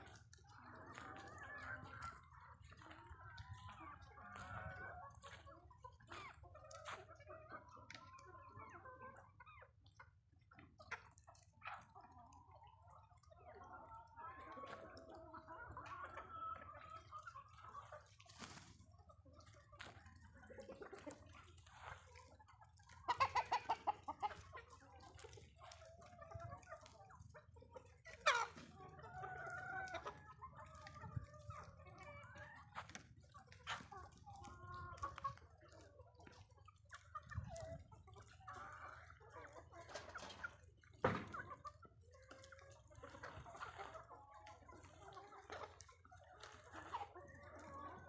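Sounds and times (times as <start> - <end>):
hens clucking: 0.0 - 48.0.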